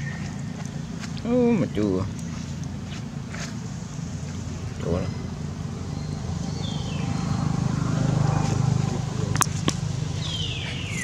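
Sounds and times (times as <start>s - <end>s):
passing vehicle engine hum: 0.0s - 11.0s.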